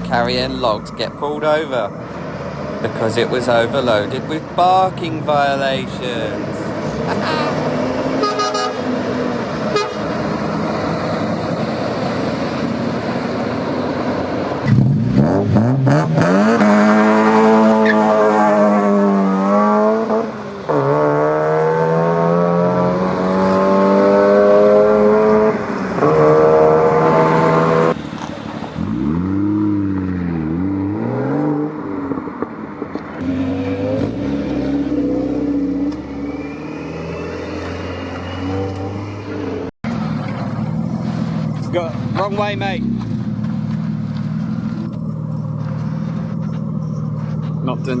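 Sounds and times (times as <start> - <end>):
car engine accelerating: 0.0 - 48.0
car engine revving: 0.0 - 48.0.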